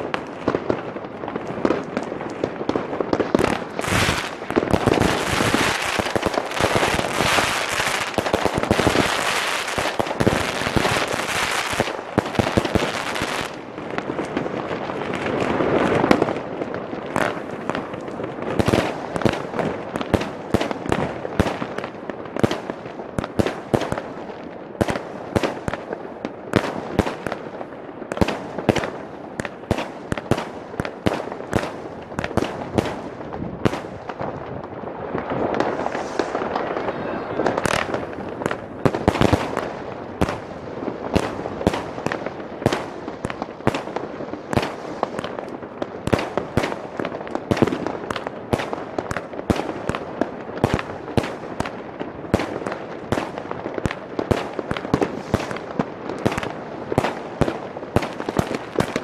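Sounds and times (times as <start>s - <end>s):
firecrackers crackling: 0.0s - 59.0s
fireworks bangs and pops: 0.0s - 59.0s.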